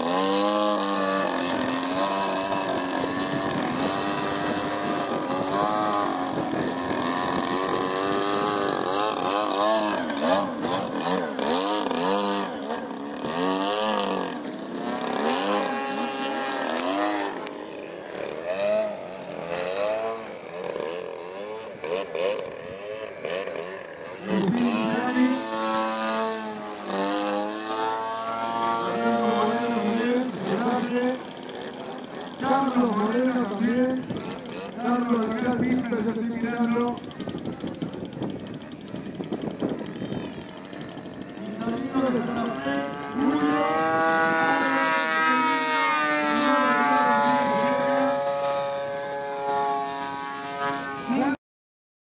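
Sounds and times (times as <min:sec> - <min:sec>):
model airplane engine: 0:00.0 - 0:51.4.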